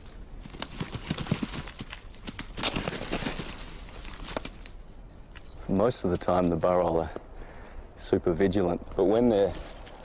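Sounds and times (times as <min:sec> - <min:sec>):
hooves clattering on stony ground: 0:00.0 - 0:10.0.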